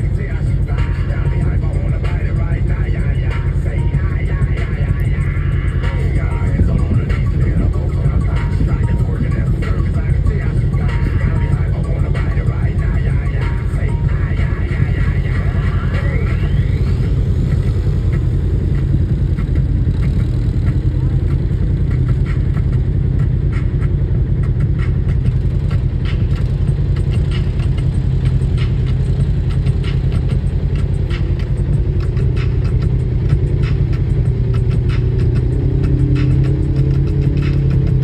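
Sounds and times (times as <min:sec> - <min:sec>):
vehicle engine running at low revs: 0:00.0 - 0:38.0.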